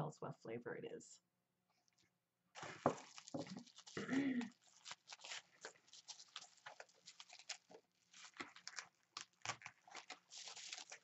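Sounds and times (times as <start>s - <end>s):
bubble wrap crinkling: 1.7s - 11.0s.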